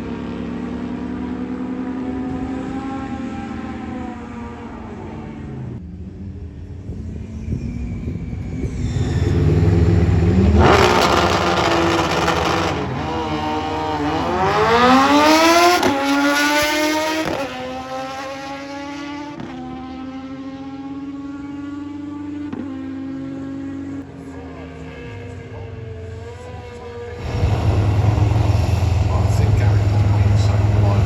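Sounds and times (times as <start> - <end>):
motorcycle accelerating hard: 0.0 - 31.0.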